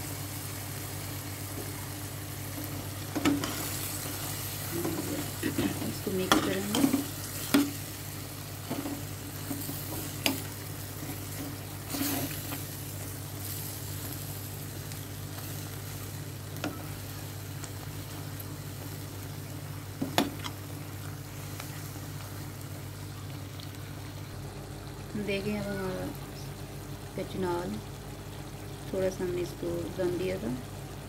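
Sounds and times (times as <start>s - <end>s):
food sizzling in a pan: 0.0s - 31.0s
steady low hum: 0.0s - 31.0s.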